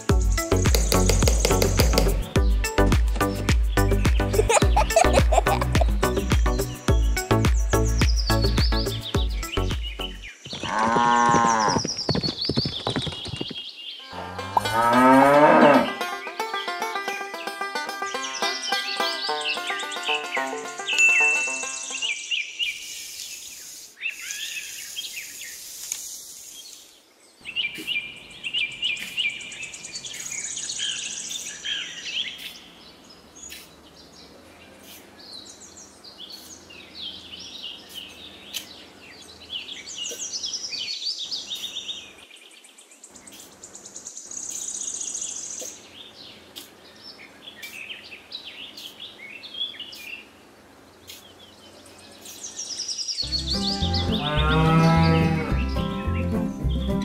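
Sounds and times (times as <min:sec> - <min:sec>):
small birds chirping: 0:00.0 - 0:14.7, 0:16.1 - 0:57.0.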